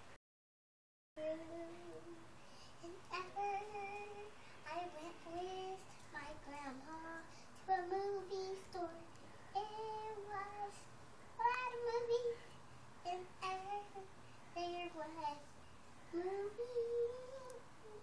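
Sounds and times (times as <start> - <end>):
child singing: 1.2 - 2.2, 2.8 - 15.5, 16.1 - 18.0.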